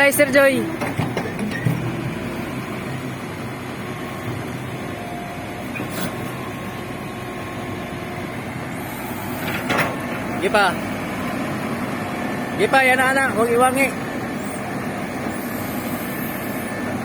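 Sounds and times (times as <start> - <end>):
wheel excavator engine running: 0.0 - 17.0.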